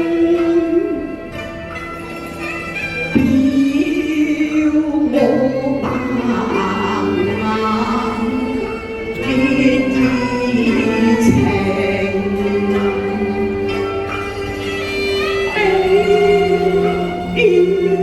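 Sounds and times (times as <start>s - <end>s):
traditional instrumental accompaniment: 0.0s - 18.0s
opera singing with held notes: 3.1s - 18.0s.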